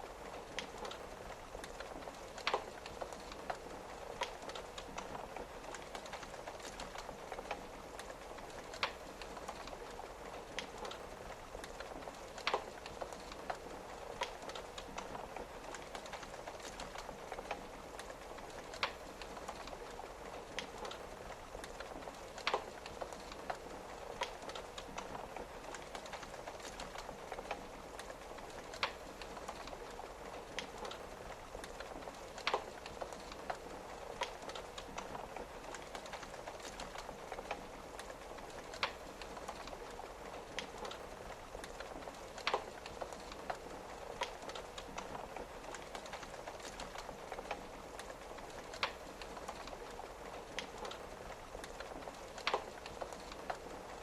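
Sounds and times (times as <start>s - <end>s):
rain on a window: 0.0s - 54.0s
wood fire crackling: 0.0s - 54.0s.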